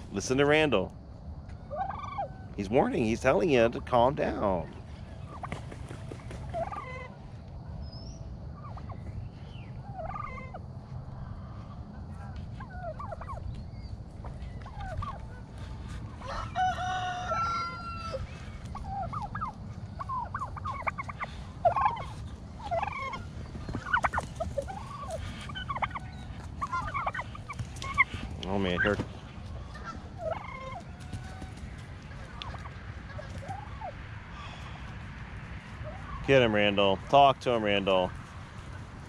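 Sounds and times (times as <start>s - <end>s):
turkeys and chickens clucking: 0.0s - 39.0s.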